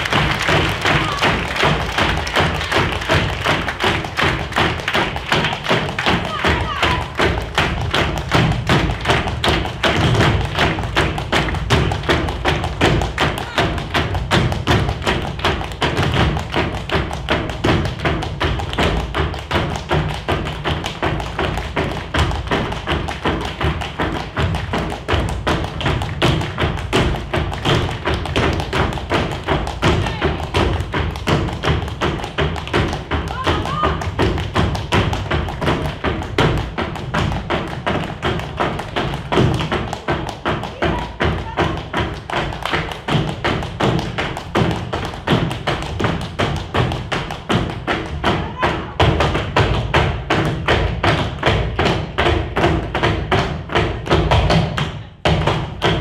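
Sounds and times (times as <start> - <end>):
shoes tapping on wooden stage: 0.0 - 56.0.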